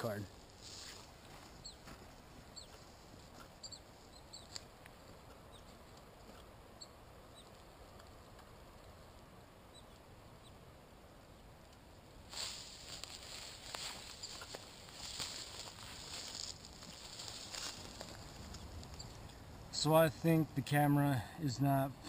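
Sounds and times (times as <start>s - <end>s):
small birds chirping: 0.0s - 11.8s, 12.4s - 20.4s.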